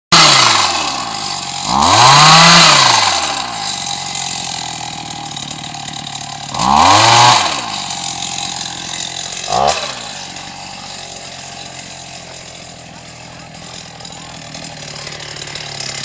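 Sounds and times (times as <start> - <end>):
small engine revving: 0.1 - 16.0.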